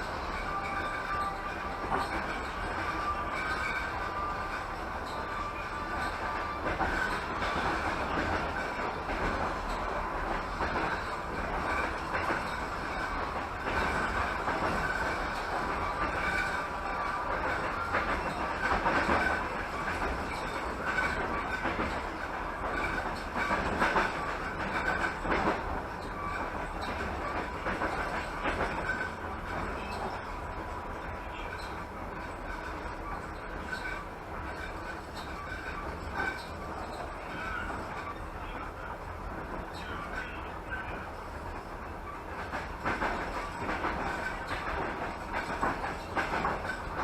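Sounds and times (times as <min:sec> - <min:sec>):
train wheels rumbling on rails: 0:00.0 - 0:47.0
clacks over rail joints: 0:00.4 - 0:47.0.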